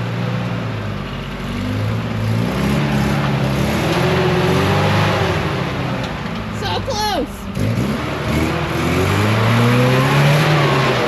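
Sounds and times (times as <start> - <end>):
off-road vehicle engine revving: 1.3 - 6.8, 7.4 - 11.0.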